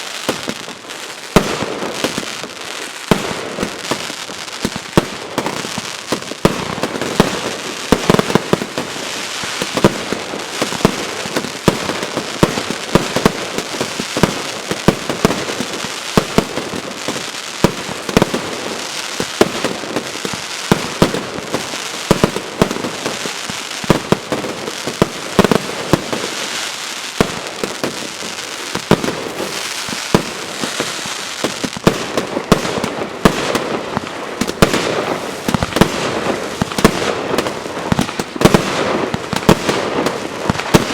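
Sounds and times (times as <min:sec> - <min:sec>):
firework bangs: 0:00.0 - 0:40.9
firework crackling: 0:00.0 - 0:40.9.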